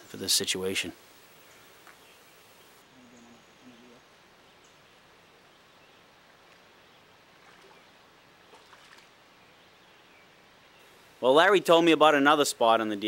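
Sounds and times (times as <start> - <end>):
faint outdoor riverside hiss: 0.0 - 13.0.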